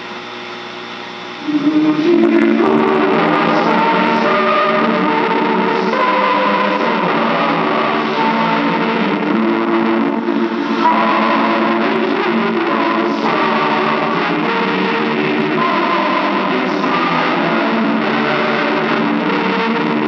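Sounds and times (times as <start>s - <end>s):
distorted electric guitar music: 1.4s - 20.0s.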